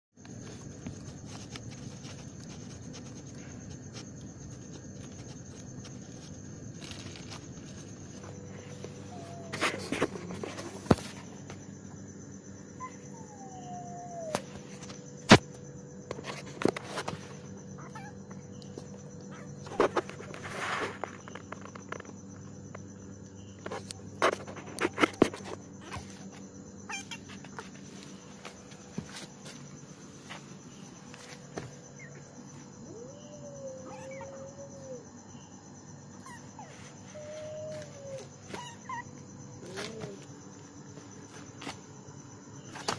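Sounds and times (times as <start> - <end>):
crickets chirring: 0.2 - 42.9.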